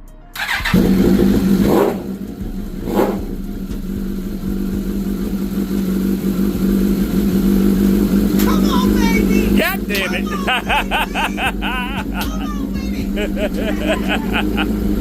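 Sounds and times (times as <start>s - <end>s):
motorcycle engine starting: 0.3s - 15.0s
motorcycle engine idling: 0.4s - 15.0s
motorcycle engine revving: 0.4s - 15.0s.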